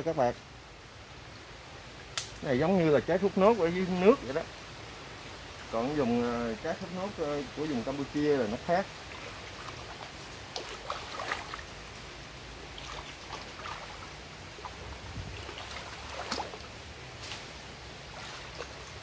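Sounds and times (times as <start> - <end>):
water trickling and lapping: 3.0 - 19.0.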